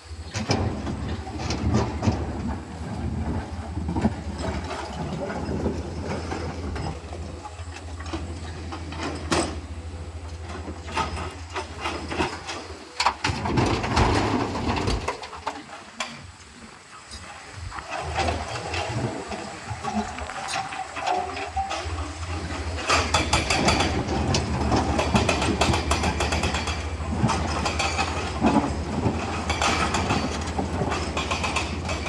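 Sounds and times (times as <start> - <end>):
excavator diesel engine running: 0.0 - 16.4, 17.2 - 32.0.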